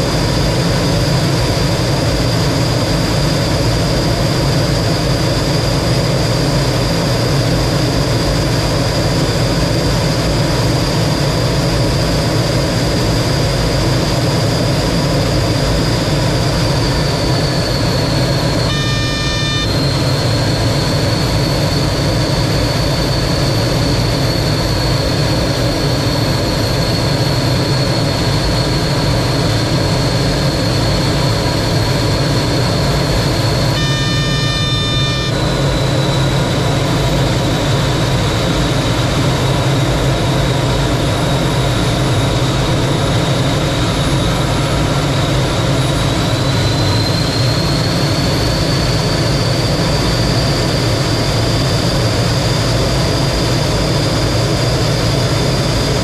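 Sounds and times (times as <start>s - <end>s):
jet engine whine in flight: 0.0s - 56.0s.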